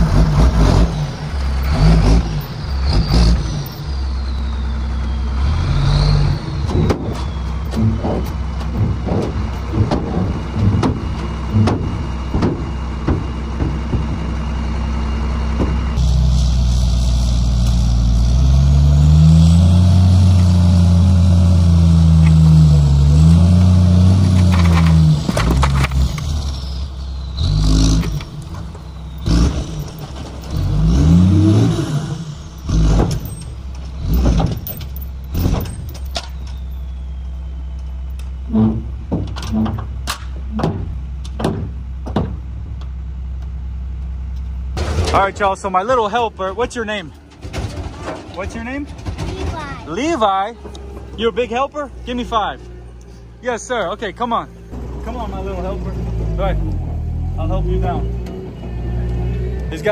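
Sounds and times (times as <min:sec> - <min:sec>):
engine revving: 0:00.0 - 0:36.0, 0:44.8 - 0:59.9
diesel engine running: 0:00.0 - 0:59.9.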